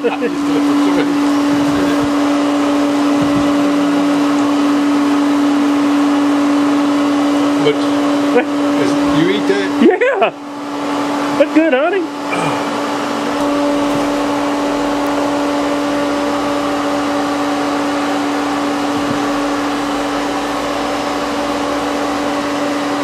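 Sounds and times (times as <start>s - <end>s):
vacuum motor humming: 0.0s - 9.8s, 12.1s - 23.0s.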